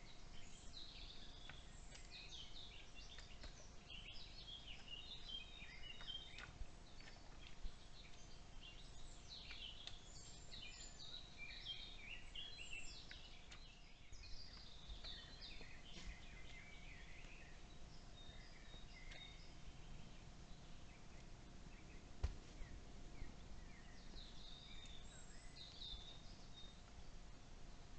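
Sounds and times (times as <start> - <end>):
low background rumble: 0.0 - 27.9
songbird chirps and trills: 0.0 - 27.9.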